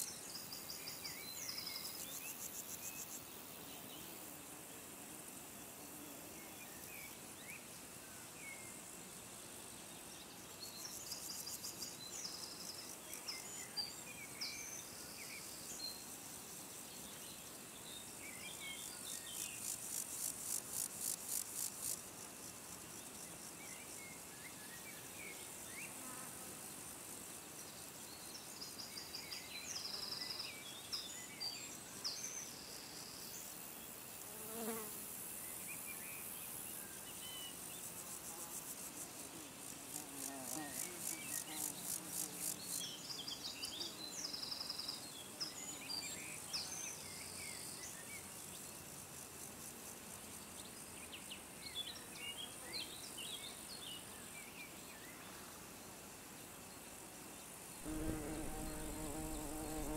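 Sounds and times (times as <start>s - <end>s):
insects chirping: 0.0s - 5.7s, 6.3s - 59.9s
faint outdoor hiss: 0.0s - 59.9s.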